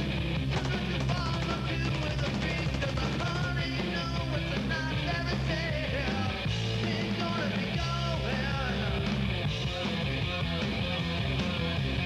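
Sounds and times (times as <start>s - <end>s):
rock music with singing: 0.0s - 12.0s
steady bass line: 0.0s - 12.0s.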